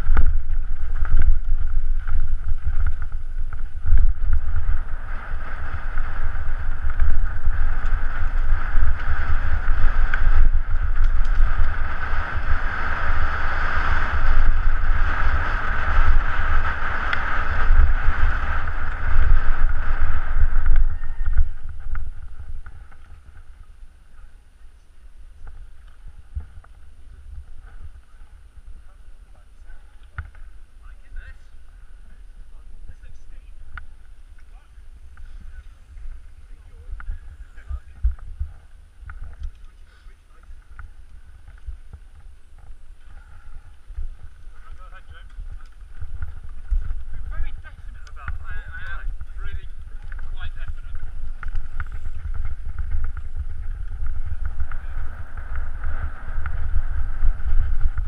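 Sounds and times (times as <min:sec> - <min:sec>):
bike tyres rattling over rocks: 0:00.0 - 0:58.0
wind buffeting the microphone: 0:00.0 - 0:58.0.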